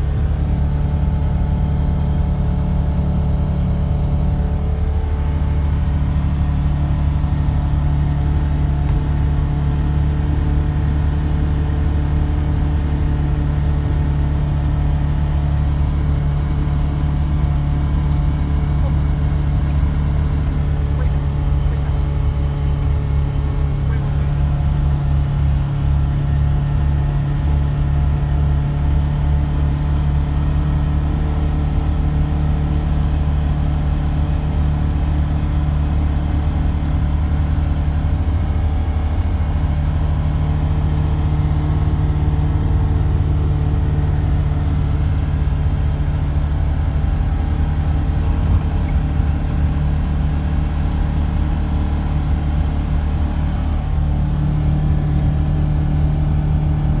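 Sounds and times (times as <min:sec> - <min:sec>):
engine droning: 0:00.0 - 0:57.0.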